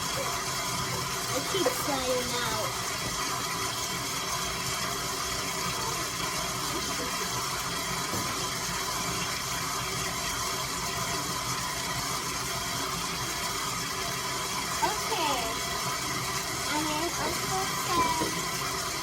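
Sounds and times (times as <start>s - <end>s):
kitchen mixer motor humming: 0.0s - 19.0s.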